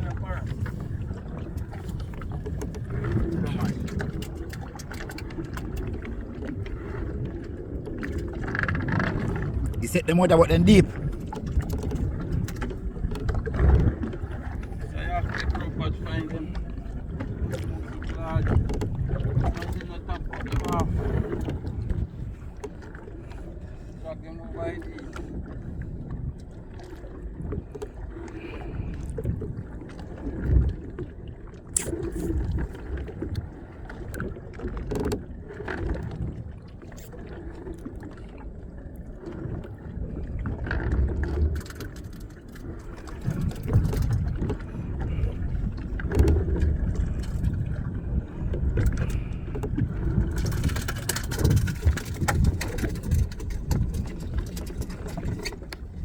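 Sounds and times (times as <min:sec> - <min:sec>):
rumble of wind and water: 0:00.0 - 0:56.0.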